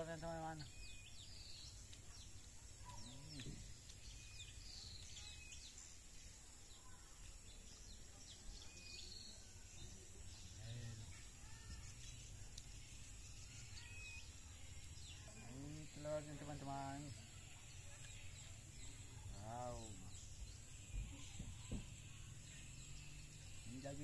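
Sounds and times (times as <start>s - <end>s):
birds chirping and whistling: 0.0s - 24.0s.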